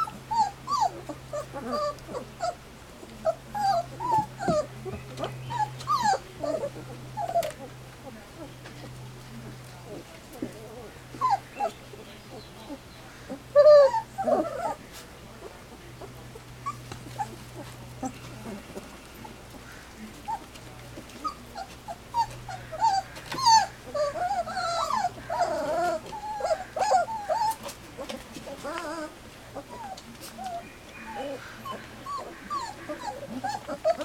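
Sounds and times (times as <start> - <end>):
puppies whimpering and squeaking: 0.0 - 34.0.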